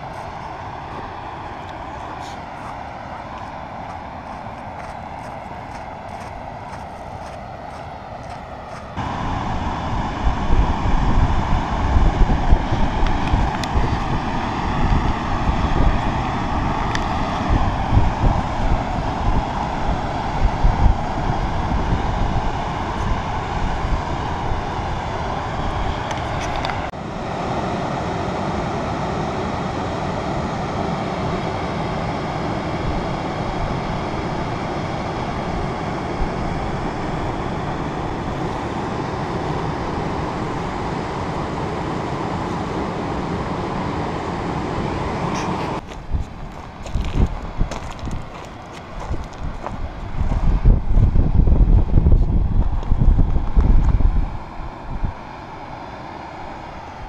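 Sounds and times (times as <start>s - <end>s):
wind buffeting microphone: 0.0s - 55.6s
drone propellers whirring: 0.0s - 57.0s.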